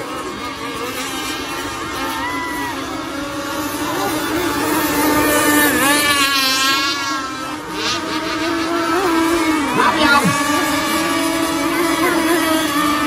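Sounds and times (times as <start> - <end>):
speedboat engine whine: 0.0 - 13.0.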